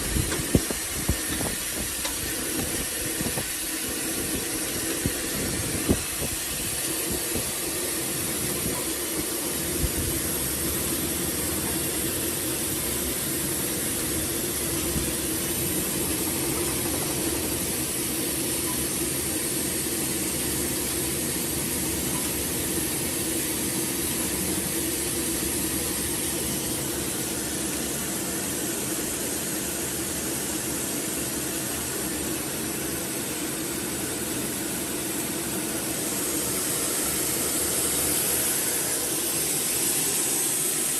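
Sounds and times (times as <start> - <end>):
bottling machine hum: 0.0 - 40.9.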